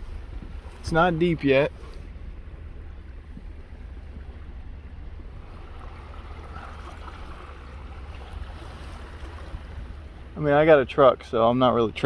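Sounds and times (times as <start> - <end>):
water washing around tyres: 0.0 - 11.2
truck engine rumble: 0.0 - 12.0.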